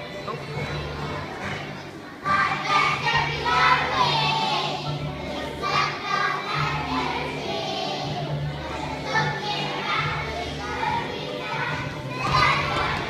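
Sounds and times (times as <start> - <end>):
children singing in unison: 0.0 - 13.0.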